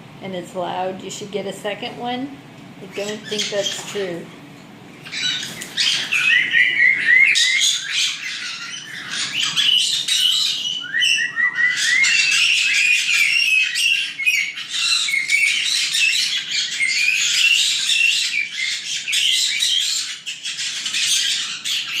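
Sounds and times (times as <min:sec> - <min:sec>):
parrots chattering: 0:02.8 - 0:22.0.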